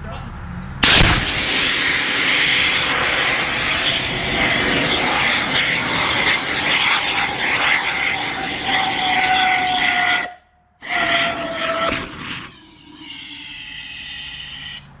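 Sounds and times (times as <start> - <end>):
rocket motor roaring: 0.8 - 14.0.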